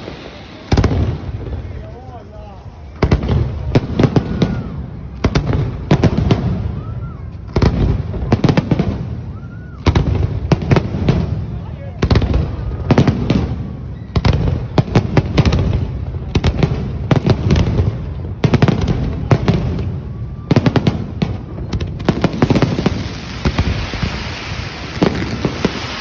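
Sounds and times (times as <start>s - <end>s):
fireworks bangs and pops: 0.0s - 26.0s
fireworks crackle: 0.0s - 26.0s.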